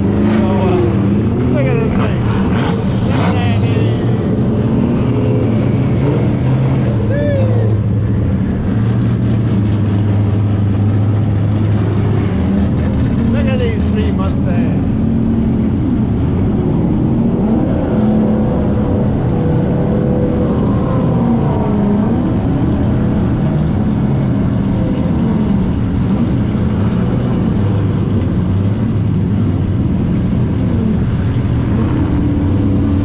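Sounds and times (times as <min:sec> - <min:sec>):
car engines idling: 0:00.0 - 0:33.0.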